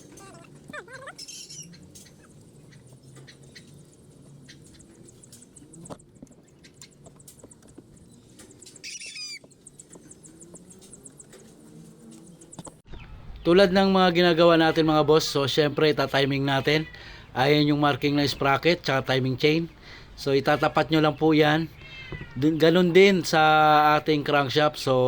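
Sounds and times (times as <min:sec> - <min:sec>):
bird chirps and trills: 0:00.0 - 0:25.0.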